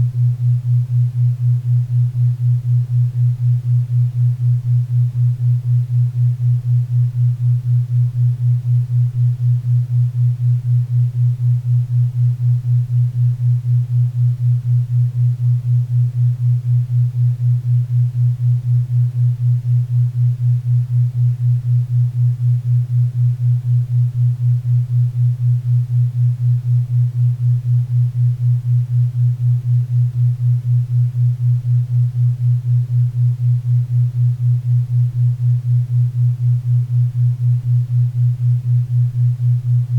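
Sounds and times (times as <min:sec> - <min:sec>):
low pulsing hum: 0:00.0 - 0:39.9.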